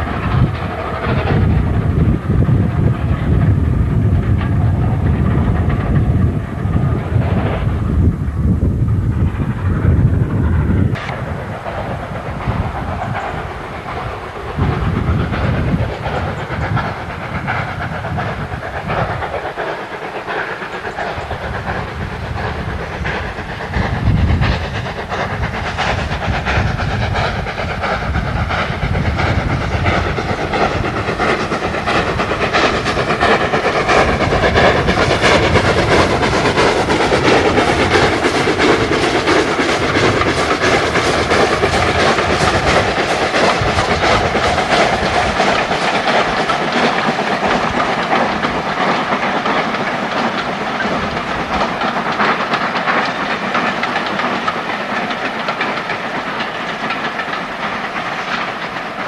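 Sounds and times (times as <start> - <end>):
steam locomotive exhaust beating: 0.0 - 59.0.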